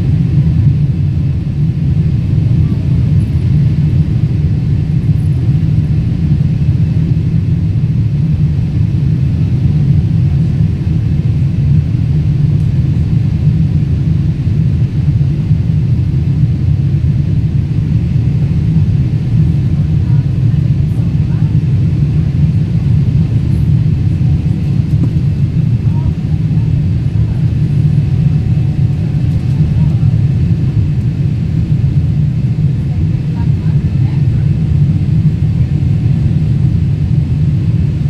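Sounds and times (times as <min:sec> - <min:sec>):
airliner cabin engine rumble: 0:00.0 - 0:38.0.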